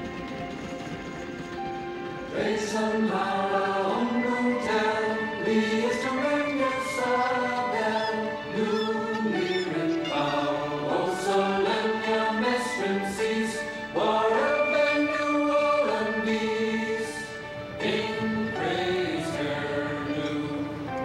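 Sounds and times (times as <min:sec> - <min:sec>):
choir singing long held notes: 0:02.2 - 0:21.0.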